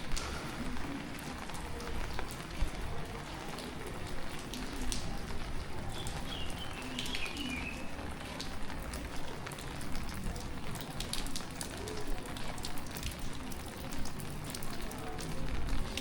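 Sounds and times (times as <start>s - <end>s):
rain drops pattering: 0.0s - 16.0s.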